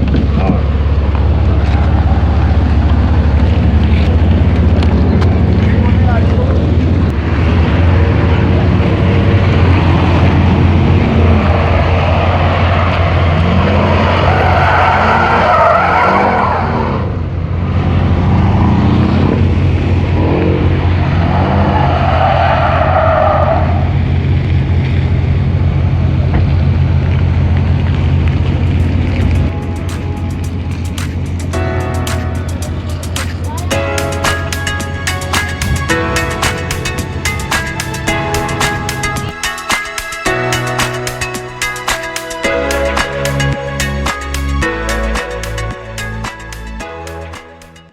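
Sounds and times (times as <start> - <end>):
car engine running hard: 0.0 - 39.3.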